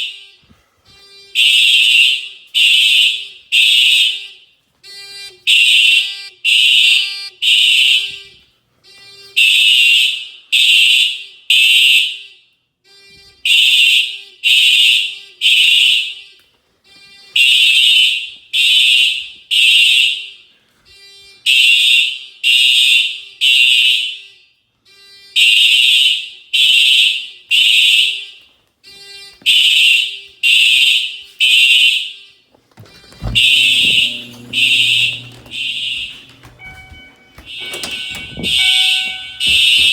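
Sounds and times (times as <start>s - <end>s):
fire alarm tone pulses: 0.0s - 39.9s.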